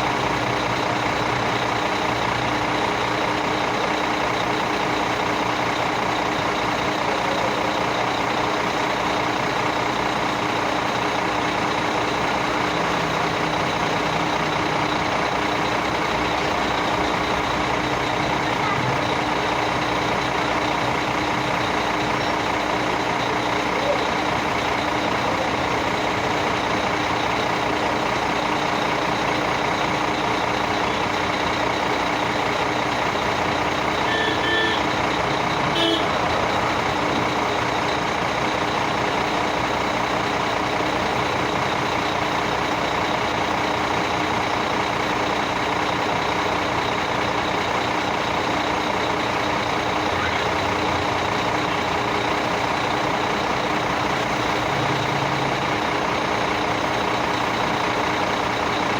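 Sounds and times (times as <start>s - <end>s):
heavy vehicle engine running: 0.0s - 58.9s.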